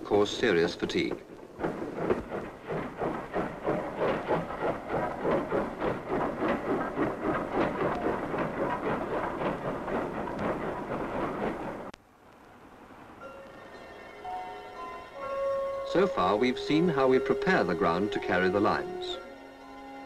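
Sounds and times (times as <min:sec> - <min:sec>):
steam locomotive exhaust beating: 0:00.0 - 0:12.0, 0:15.4 - 0:20.0.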